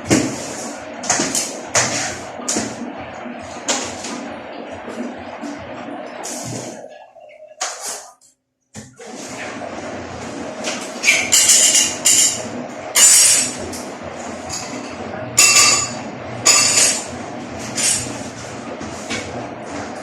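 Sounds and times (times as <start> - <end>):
steady low hum: 0.0 - 7.6, 9.1 - 20.0.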